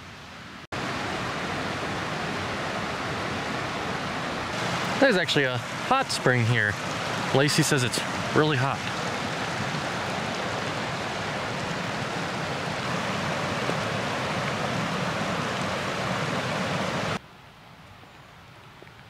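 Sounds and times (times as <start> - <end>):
creek rushing over rocks: 0.7 - 17.2.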